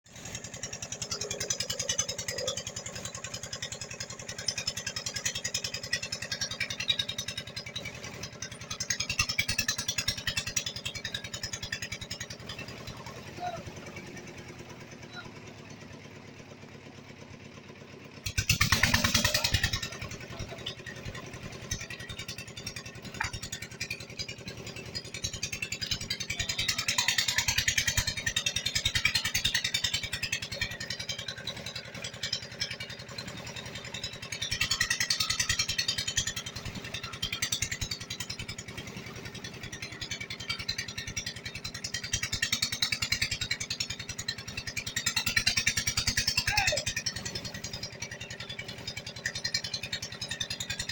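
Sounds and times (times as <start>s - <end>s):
small engine running: 0.0s - 50.9s.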